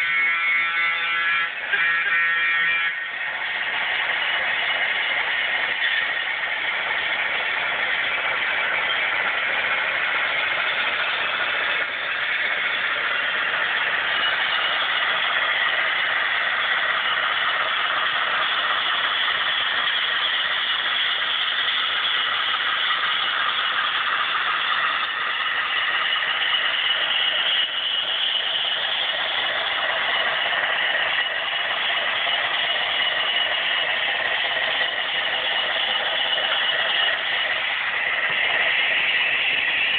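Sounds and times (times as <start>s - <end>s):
model train running with rattling: 0.0s - 39.9s.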